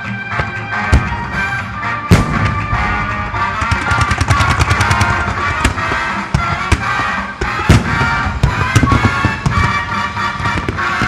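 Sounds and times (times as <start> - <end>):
music: 0.0 - 11.0
fireworks bursting: 0.3 - 11.0.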